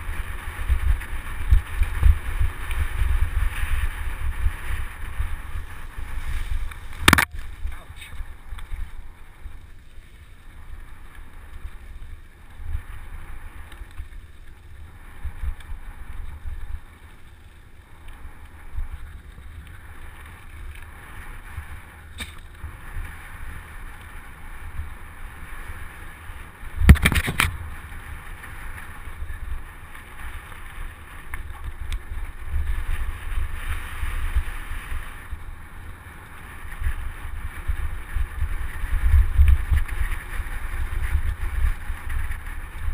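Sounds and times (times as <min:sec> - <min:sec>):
wind noise on microphone: 0:00.0 - 0:09.8, 0:10.4 - 0:42.9
bike rolling over dirt trail: 0:00.0 - 0:42.9.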